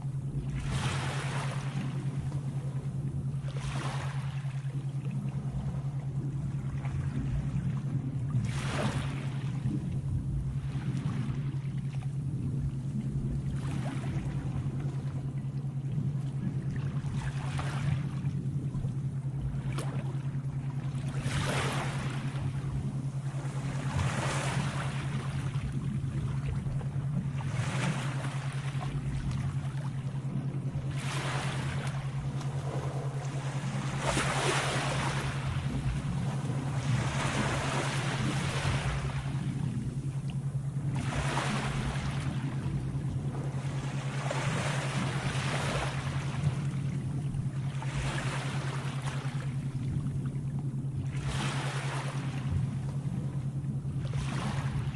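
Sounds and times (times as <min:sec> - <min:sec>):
sea waves washing in: 0:00.0 - 0:54.9
steady low hum: 0:00.0 - 0:54.9.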